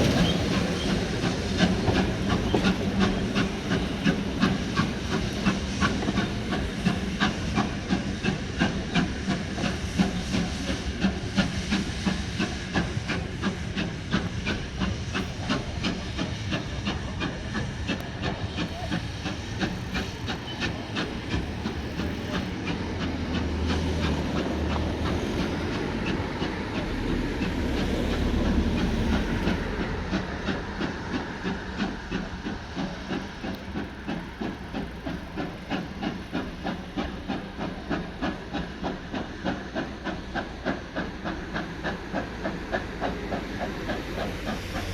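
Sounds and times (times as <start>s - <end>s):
steam hissing: 0.0s - 44.9s
steam train rhythmic clatter: 0.0s - 44.9s.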